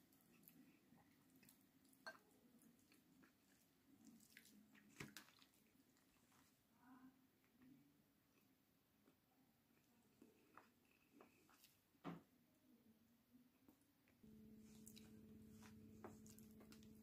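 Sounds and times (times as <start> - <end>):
faint chewing: 0.0 - 12.0, 13.5 - 17.0.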